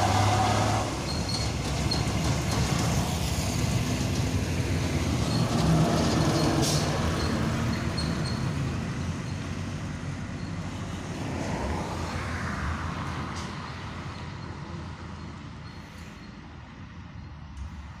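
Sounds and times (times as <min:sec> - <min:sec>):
truck passing by: 0:00.0 - 0:18.0.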